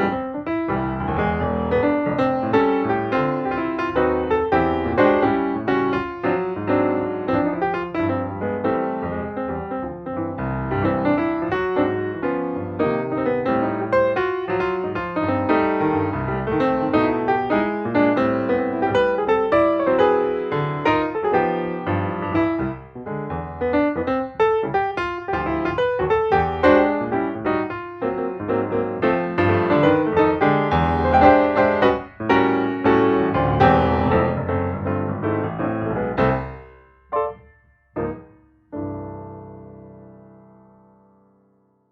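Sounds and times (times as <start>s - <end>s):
piano music: 0.0s - 41.9s.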